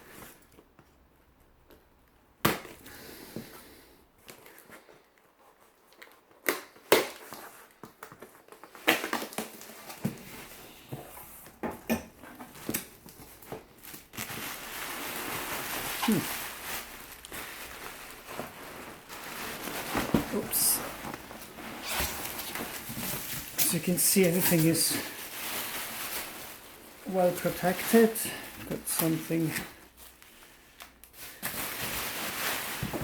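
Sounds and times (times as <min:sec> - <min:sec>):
packing material crinkling and rustling: 0:04.2 - 0:11.5, 0:12.2 - 0:33.0.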